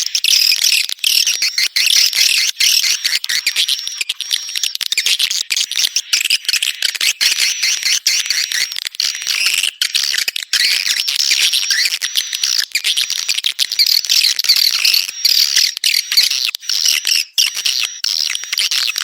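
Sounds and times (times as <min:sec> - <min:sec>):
swiftlets chirping and twittering: 0:00.0 - 0:19.0.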